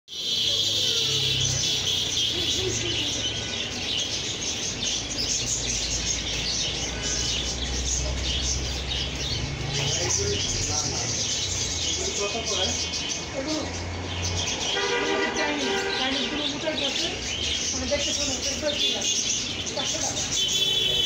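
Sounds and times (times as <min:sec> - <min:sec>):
small birds chirping: 0:00.1 - 0:21.0.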